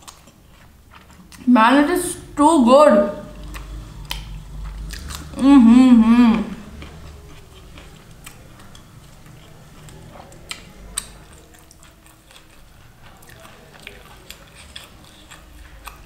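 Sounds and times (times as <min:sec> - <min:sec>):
person chewing food: 0:00.0 - 0:01.5, 0:03.2 - 0:16.0.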